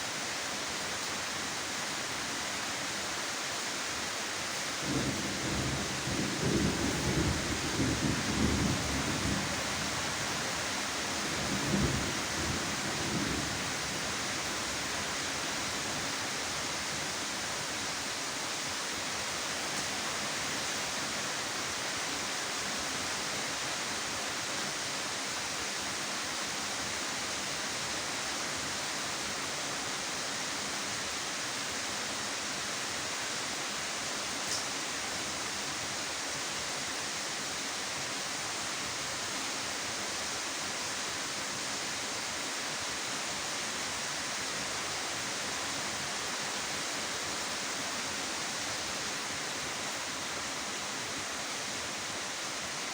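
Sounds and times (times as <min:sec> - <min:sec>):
heavy rain hissing: 0:00.0 - 0:52.9.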